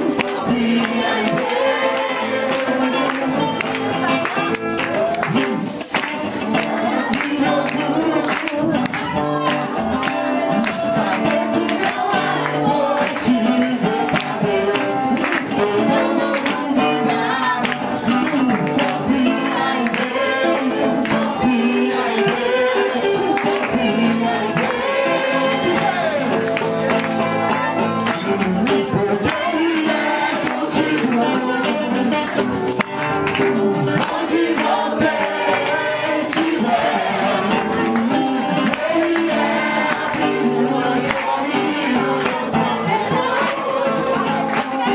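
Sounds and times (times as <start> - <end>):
tambourine shaking: 0.0 - 44.9
worship music with singing: 0.0 - 44.9.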